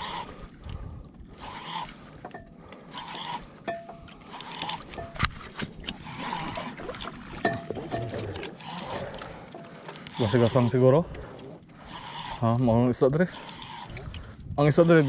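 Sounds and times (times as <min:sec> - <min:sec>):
water swishing against hull: 0:00.0 - 0:15.0.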